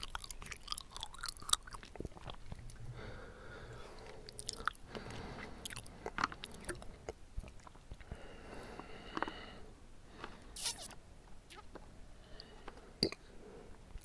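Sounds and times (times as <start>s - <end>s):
chewing tapioca pearls: 0.0s - 2.8s, 3.7s - 14.0s.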